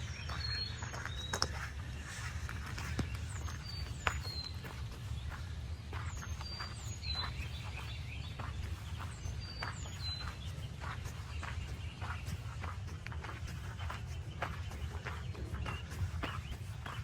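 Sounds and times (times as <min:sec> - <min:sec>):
bird chirping: 0:00.0 - 0:17.0
footsteps crunching on forest ground: 0:00.0 - 0:17.0.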